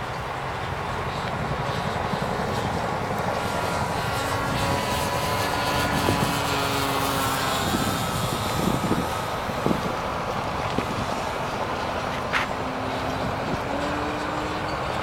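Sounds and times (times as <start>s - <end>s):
model plane engine whine: 0.0s - 15.0s
wind rumbling on microphone: 0.0s - 15.0s.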